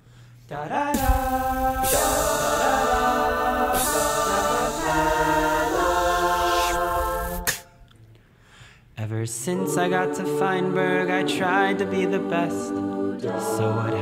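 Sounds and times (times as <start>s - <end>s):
a cappella group singing chords: 0.5s - 7.8s, 9.0s - 14.0s.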